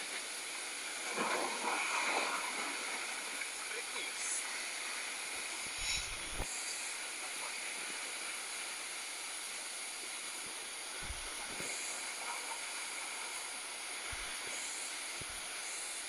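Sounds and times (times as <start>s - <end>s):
surf washing over rocks: 0.0s - 16.0s.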